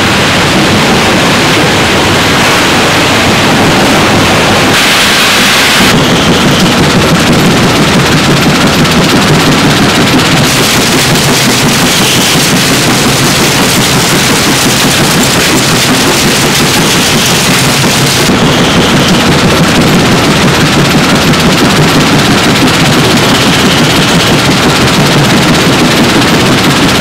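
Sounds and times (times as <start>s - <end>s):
stone crushing machinery din: 4.7s - 27.0s.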